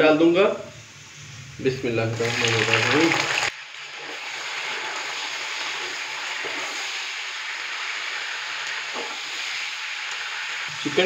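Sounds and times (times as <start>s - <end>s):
chicken sizzling in pot: 0.8s - 11.0s.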